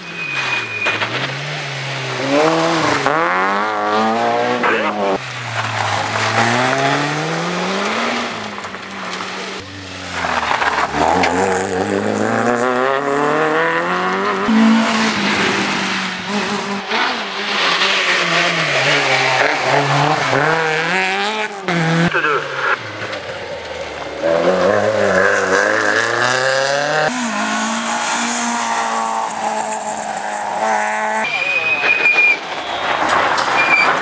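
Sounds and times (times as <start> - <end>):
rally car engines revving past: 0.0 - 34.0.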